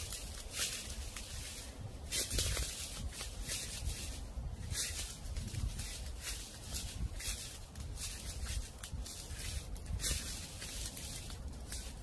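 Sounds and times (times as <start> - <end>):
footsteps crunching dry leaves: 0.0 - 12.0.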